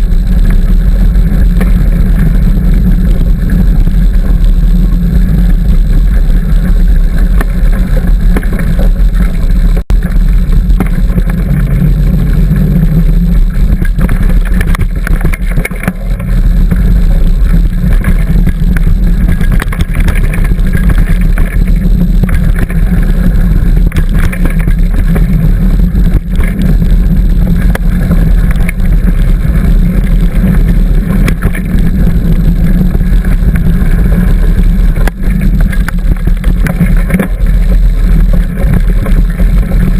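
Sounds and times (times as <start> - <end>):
bicycle riding rumble: 0.0 - 39.9
bike rattles and clicks: 0.0 - 39.9
wind buffeting microphone: 0.0 - 39.9.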